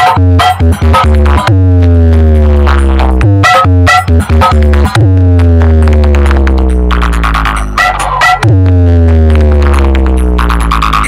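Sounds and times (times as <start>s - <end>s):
deep sustained bass note: 0.0s - 11.0s.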